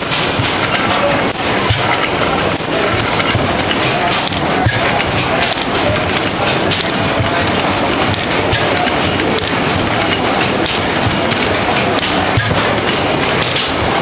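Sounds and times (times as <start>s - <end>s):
stationary engines clattering: 0.0s - 14.0s.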